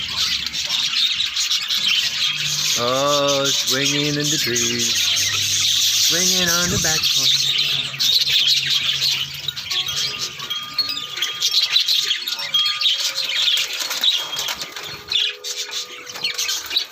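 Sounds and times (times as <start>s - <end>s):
parakeets chattering: 0.0s - 16.9s.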